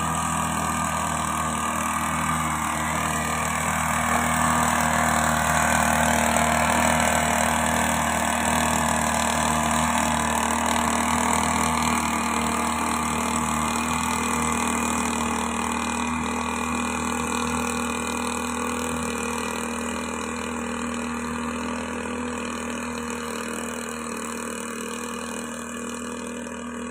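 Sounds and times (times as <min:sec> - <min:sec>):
two-stroke mist blower engine: 0:00.0 - 0:26.9.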